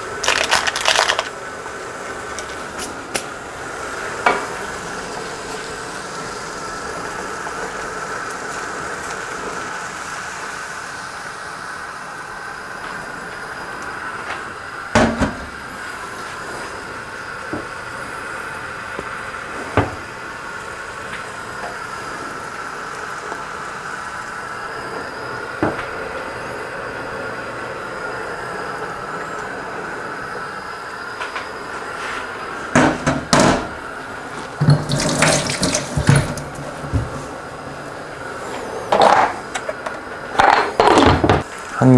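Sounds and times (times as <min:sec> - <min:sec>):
pot of water boiling: 0:00.0 - 0:41.9.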